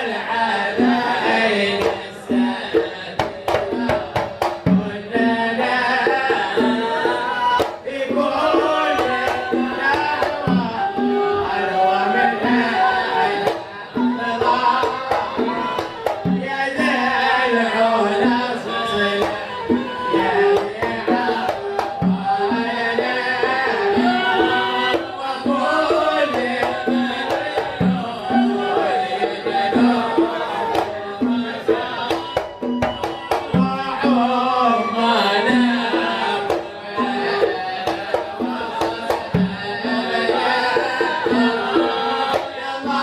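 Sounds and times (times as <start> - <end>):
devotional chant singing: 0.0 - 43.0.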